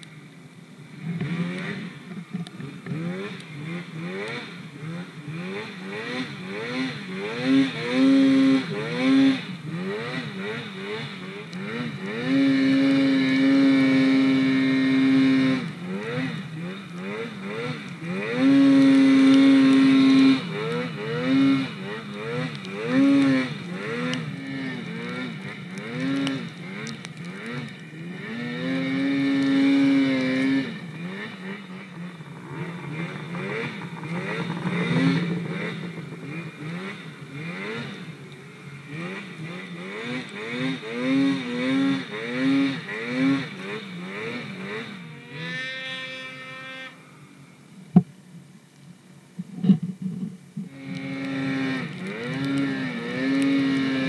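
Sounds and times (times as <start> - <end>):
snowmobile engine revving: 0.9 - 47.6, 49.6 - 54.0.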